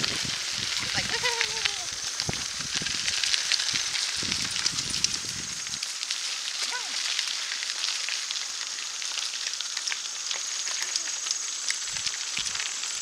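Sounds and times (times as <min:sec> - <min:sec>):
bicycle tyres rolling on gravel: 0:00.0 - 0:13.0.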